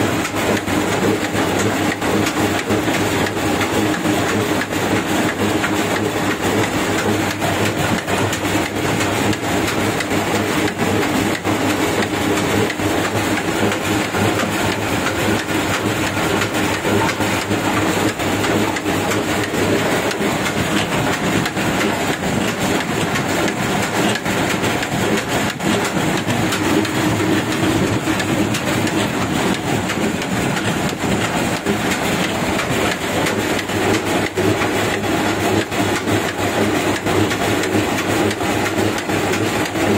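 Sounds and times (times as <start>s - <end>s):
oil press machine clattering: 0.0s - 39.9s.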